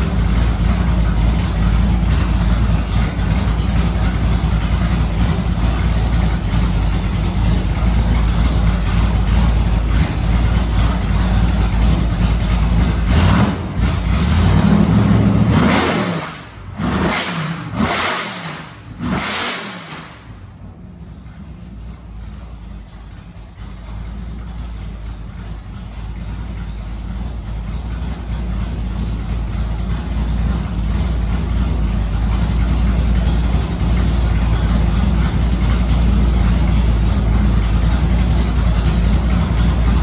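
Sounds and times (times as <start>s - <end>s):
car engine rumbling and revving: 0.0s - 40.0s.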